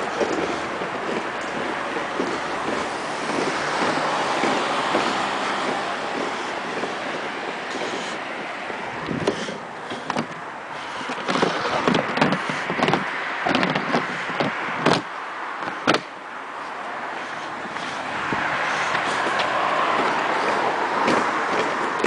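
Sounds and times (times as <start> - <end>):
handling knocks and rubbing: 0.0 - 8.2, 9.0 - 16.2, 17.7 - 22.0
outdoor noise: 0.0 - 22.0.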